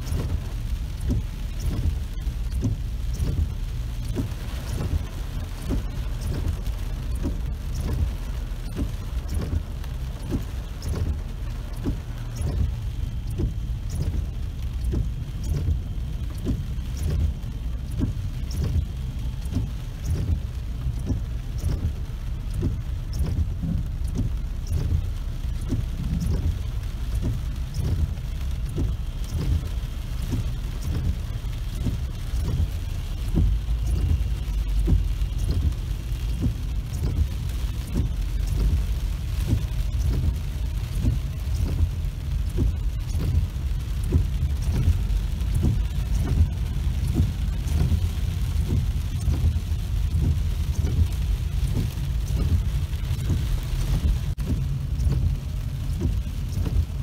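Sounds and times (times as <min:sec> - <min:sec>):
low rumble of vehicle and traffic: 0:00.0 - 0:57.0
rain drops on car roof: 0:00.0 - 0:57.0.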